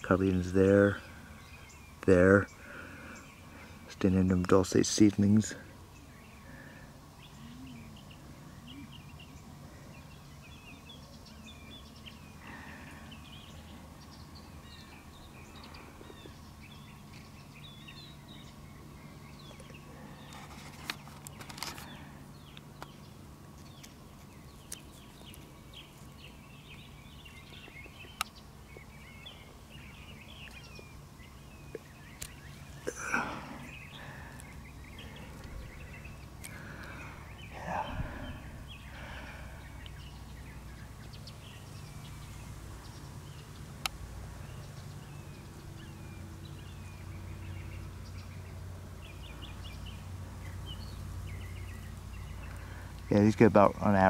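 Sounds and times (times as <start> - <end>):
small birds chirping: 0.0 - 54.0
steady low hum: 0.0 - 54.0.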